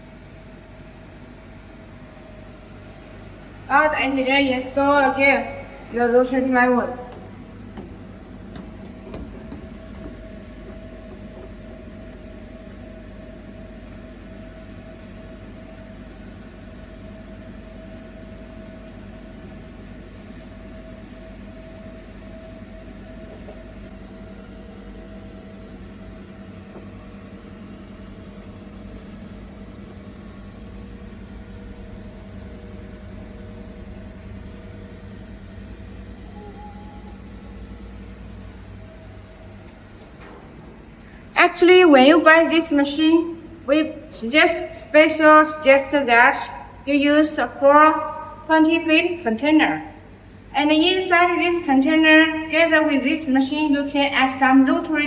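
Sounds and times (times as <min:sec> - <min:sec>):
machinery hum: 0:00.0 - 0:55.0.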